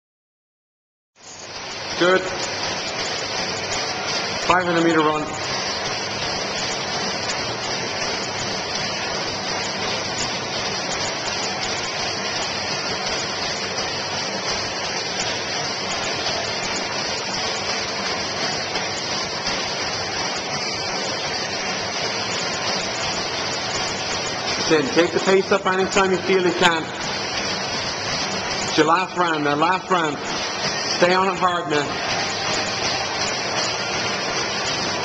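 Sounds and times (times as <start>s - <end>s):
steady rushing hiss: 1.4s - 35.0s.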